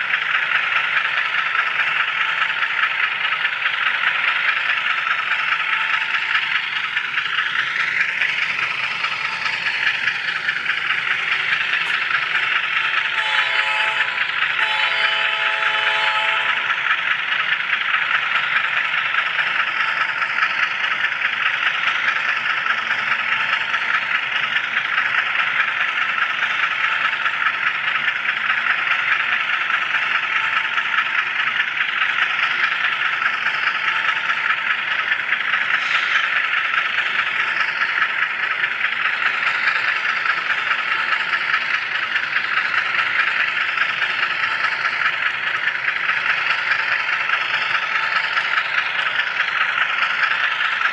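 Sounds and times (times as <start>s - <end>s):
model train car rattling on track: 0.0s - 50.9s.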